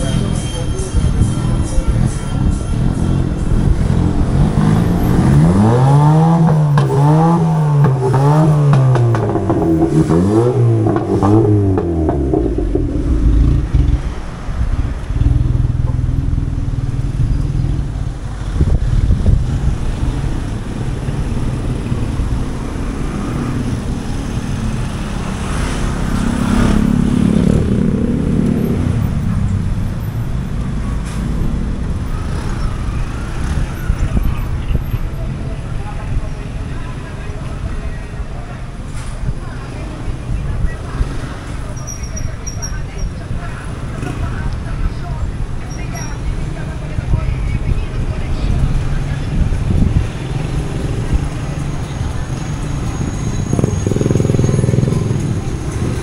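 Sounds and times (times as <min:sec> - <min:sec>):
low traffic rumble: 0:00.0 - 0:56.0.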